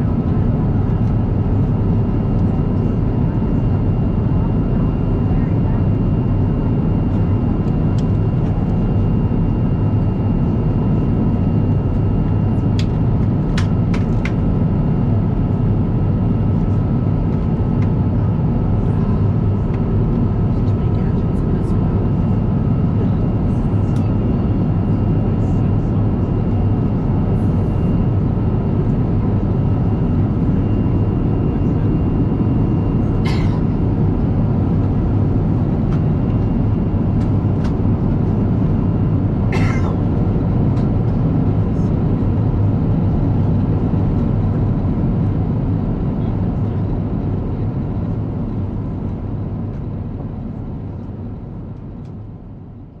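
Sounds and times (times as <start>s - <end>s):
aircraft cabin roar: 0.0s - 52.9s.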